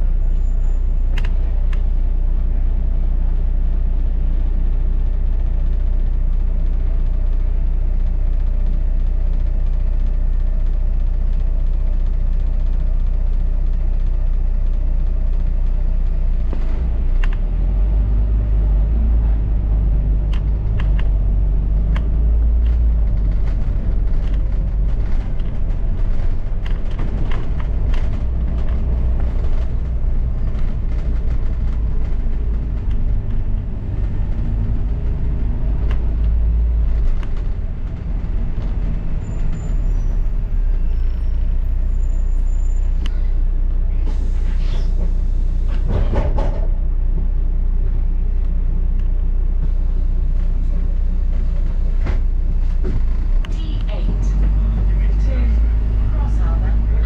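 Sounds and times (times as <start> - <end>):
bus engine and road rumble: 0.0 - 57.0
rattles and clicks of bus body: 0.0 - 57.0.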